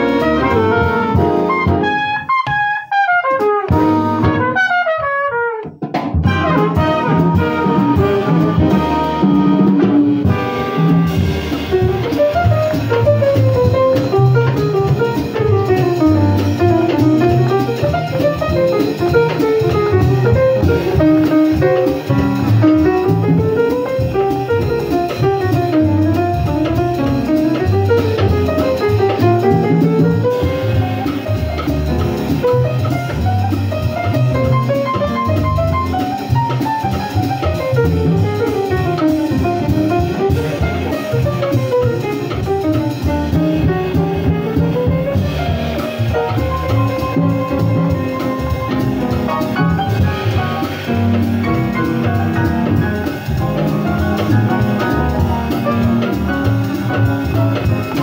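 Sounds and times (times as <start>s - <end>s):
drums keeping time: 0.0s - 58.0s
jazz piano solo: 0.0s - 58.0s.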